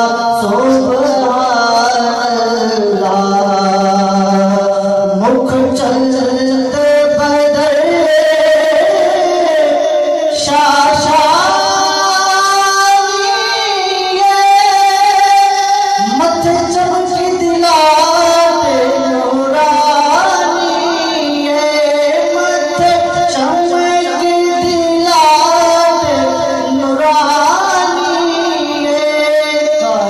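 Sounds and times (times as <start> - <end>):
man chanting into a microphone: 0.0 - 30.0.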